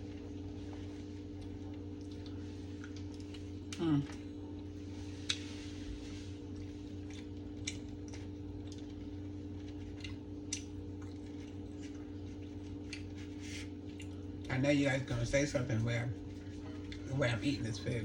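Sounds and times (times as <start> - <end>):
soft chewing: 0.0 - 14.7, 16.1 - 18.0
steady background hum: 0.0 - 18.0.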